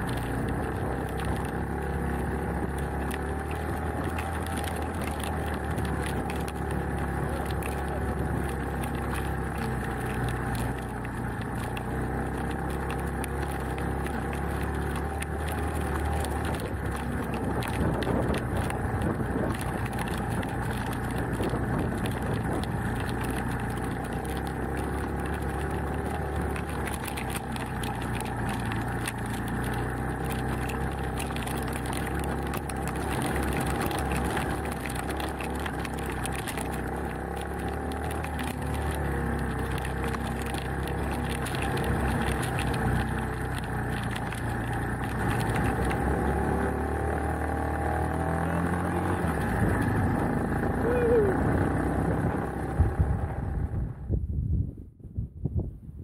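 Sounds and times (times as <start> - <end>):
motorcycle engine running: 0.0 - 54.2.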